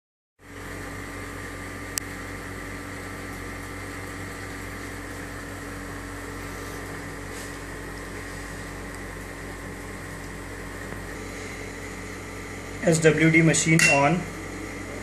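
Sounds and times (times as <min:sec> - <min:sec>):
steady mechanical hum: 0:00.4 - 0:15.0.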